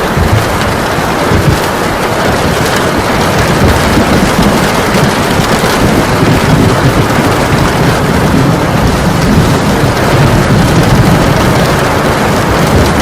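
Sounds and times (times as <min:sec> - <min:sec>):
heavy rain pouring: 0:00.0 - 0:13.0
low rumble: 0:00.0 - 0:13.0.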